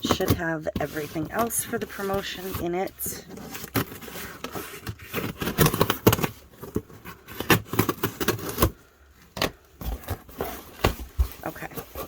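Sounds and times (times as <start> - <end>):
box packaging being handled: 0.0 - 12.0.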